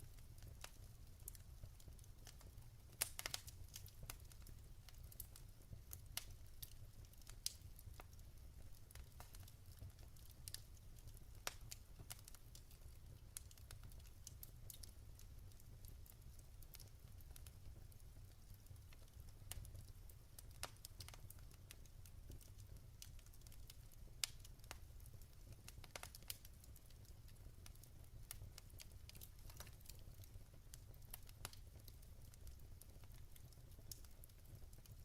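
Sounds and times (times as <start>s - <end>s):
logs crackling and popping: 0.0s - 35.0s
low rumble of fire: 0.0s - 35.0s.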